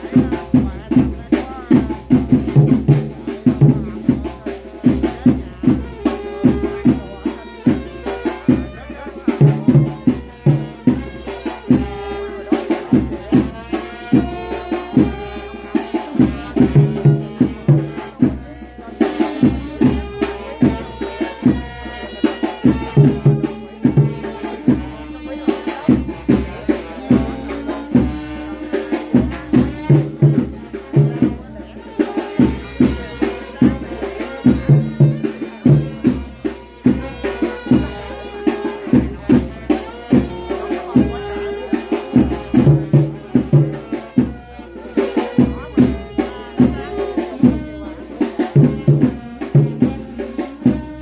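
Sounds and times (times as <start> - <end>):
music with drums and melody: 0.0 - 51.0.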